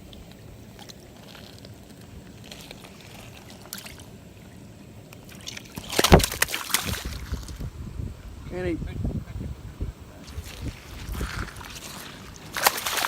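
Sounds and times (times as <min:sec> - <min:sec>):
water splashing and sloshing: 0:00.0 - 0:07.8, 0:10.2 - 0:13.0.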